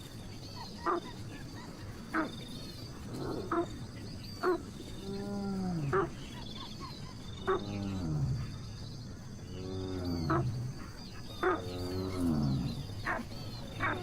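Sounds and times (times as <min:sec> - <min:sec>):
faint high chirping: 0:00.0 - 0:14.0
low drawn-out falling calls: 0:02.0 - 0:14.0.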